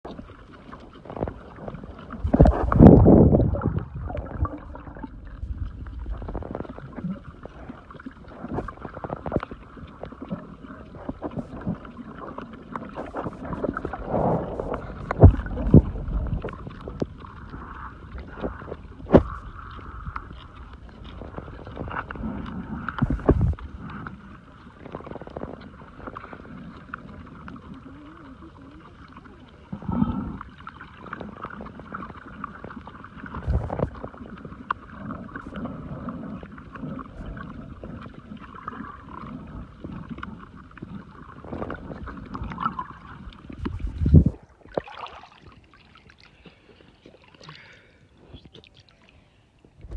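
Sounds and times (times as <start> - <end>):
sea water sloshing and splashing: 0.0 - 49.9.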